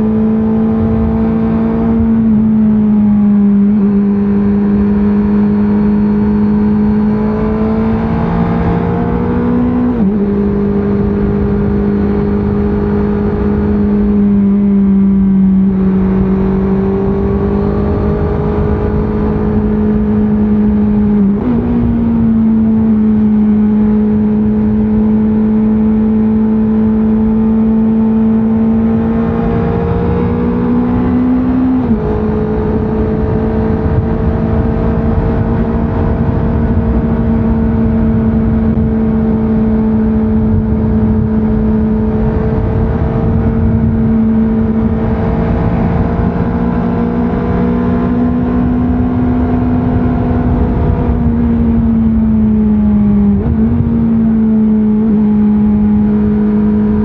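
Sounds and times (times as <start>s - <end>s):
motorcycle engine with gear changes: 0.0s - 57.0s.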